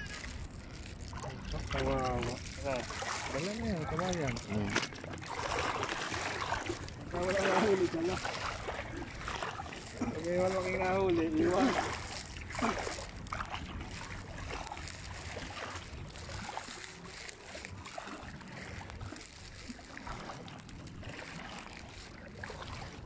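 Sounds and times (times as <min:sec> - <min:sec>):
wading through shallow water: 0:00.0 - 0:23.0.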